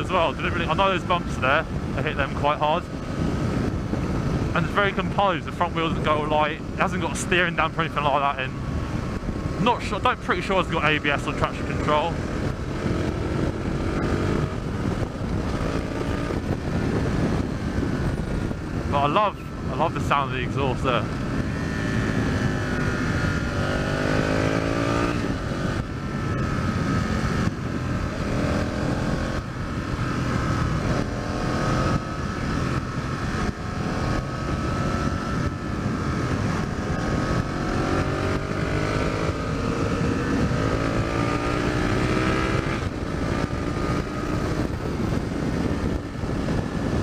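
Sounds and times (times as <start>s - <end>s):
motorcycle engine revving: 0.0s - 47.0s
wind rushing over microphone: 0.0s - 47.0s.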